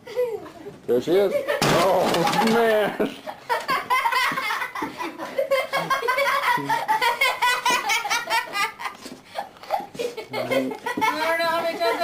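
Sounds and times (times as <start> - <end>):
person laughing hard: 1.3 - 11.2.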